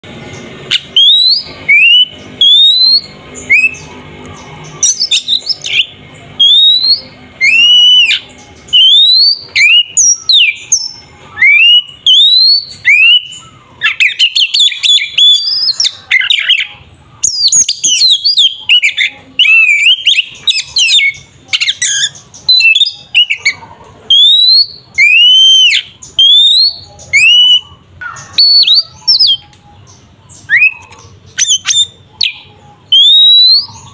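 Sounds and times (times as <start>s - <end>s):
bird rapid chattering: 0.1s - 33.9s
bird whistled song: 0.4s - 33.9s.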